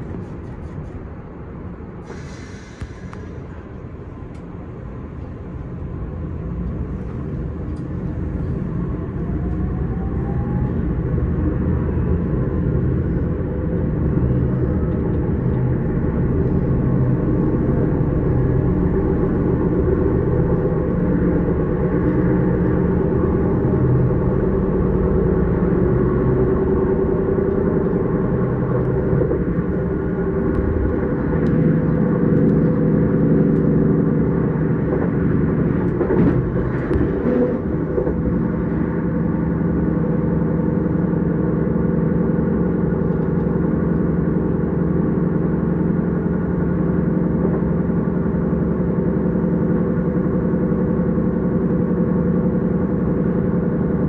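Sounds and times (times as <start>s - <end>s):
train motor hum: 0.0s - 54.0s
train wheels rumbling on track: 0.0s - 54.0s.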